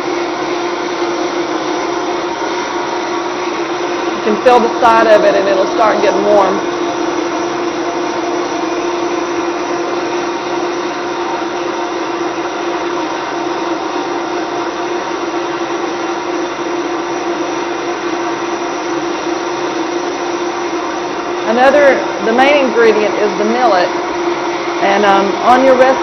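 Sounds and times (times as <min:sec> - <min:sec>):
blender motor whine: 0:00.0 - 0:26.0.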